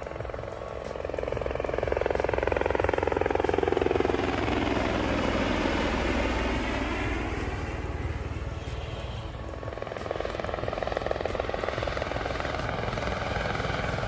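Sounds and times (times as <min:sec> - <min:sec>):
helicopter rotor chop: 0:00.0 - 0:14.0.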